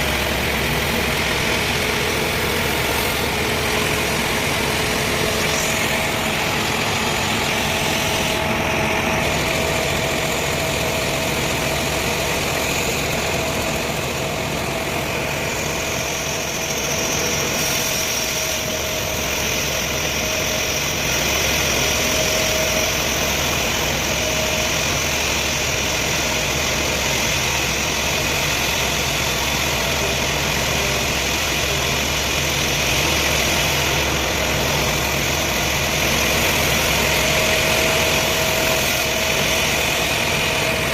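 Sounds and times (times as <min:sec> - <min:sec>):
higher machine whine: 0:00.0 - 0:40.9
sawmill machinery humming and whining: 0:00.0 - 0:40.9.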